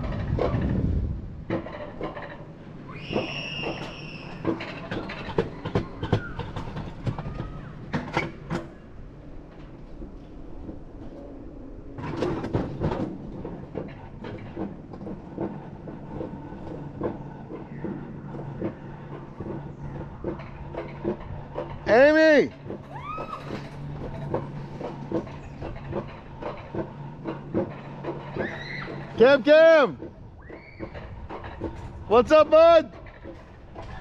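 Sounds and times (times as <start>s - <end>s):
coaster car rumbling on rails: 0.0s - 34.0s
wheels clacking on track joints: 0.0s - 34.0s.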